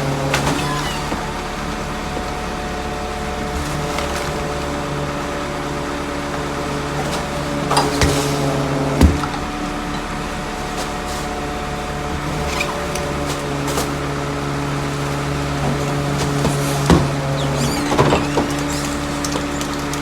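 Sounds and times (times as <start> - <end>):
garbage truck engine hum: 0.0 - 20.0.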